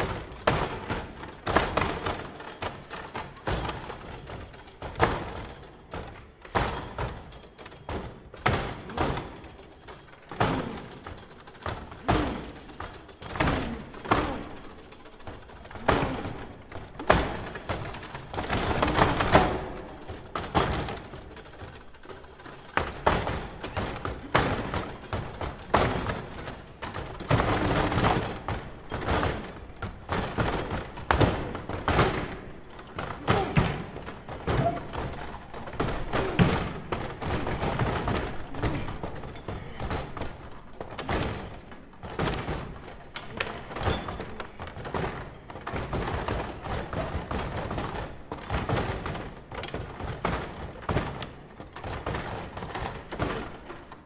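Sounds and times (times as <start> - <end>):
foosball table knocks and clacks: 0.0 - 54.0.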